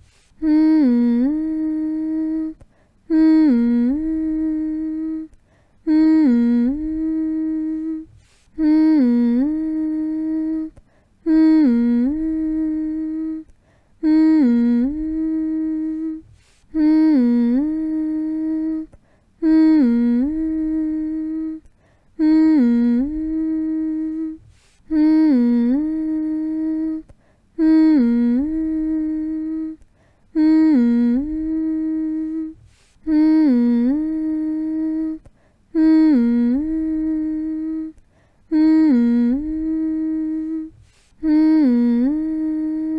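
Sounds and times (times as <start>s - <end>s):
person humming a long note: 0.4s - 42.9s.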